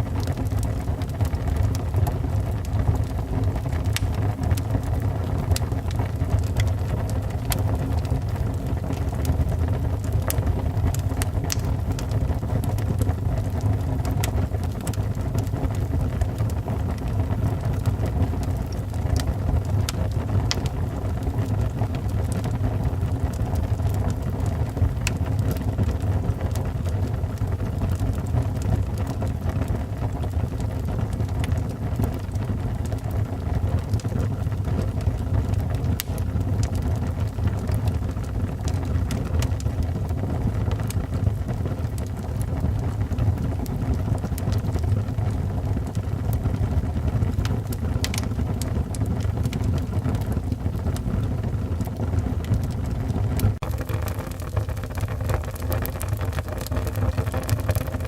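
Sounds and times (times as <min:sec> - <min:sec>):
burning wood crackling: 0:00.0 - 0:58.0
low rush of flames: 0:00.0 - 0:58.0.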